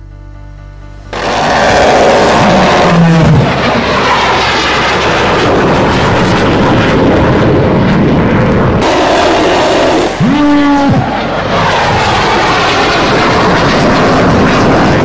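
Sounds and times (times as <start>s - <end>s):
low hum dropping in pitch: 0.0s - 15.0s
fighter jet roaring past: 1.1s - 15.0s.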